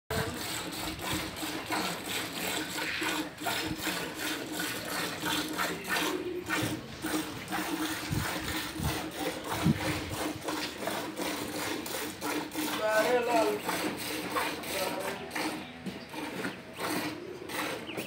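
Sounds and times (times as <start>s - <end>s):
milk squirting into metal pail: 0.2s - 18.0s.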